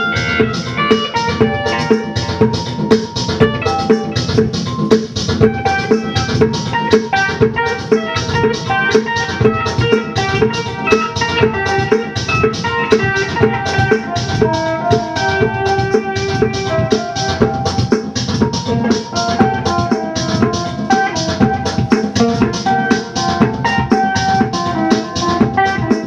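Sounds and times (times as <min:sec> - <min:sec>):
fast drum and percussion beat: 0:00.0 - 0:26.0
pedal steel guitar: 0:00.0 - 0:26.0.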